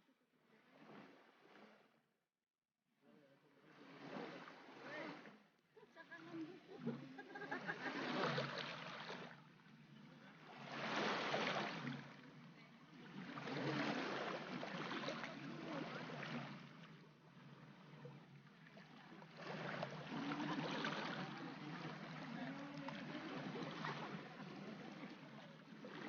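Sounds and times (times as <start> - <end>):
small waves washing on shore: 0.5 - 1.9, 3.5 - 26.0.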